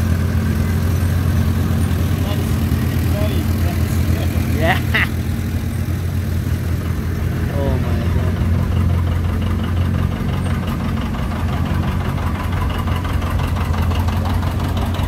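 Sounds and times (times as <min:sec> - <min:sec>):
tractor engine pulsing: 0:00.0 - 0:15.0.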